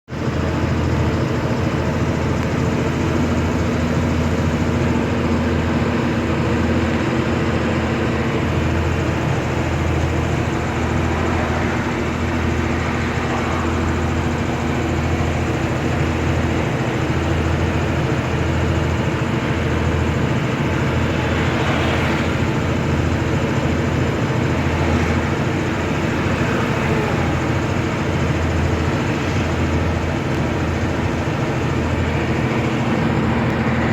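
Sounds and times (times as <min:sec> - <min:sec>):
road noise: 0:00.1 - 0:33.9
truck engine droning: 0:00.1 - 0:33.9.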